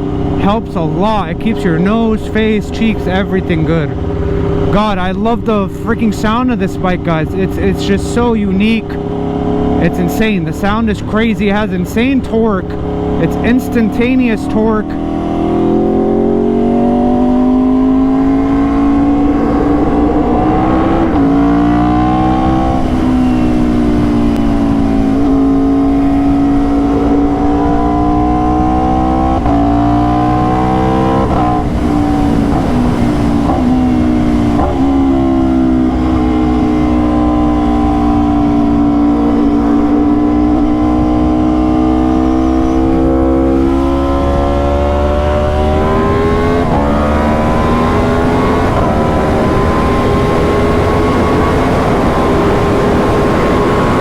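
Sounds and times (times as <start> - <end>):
low wind rumble: 0.0 - 54.0
motorcycle engine revving through gears: 0.0 - 54.0.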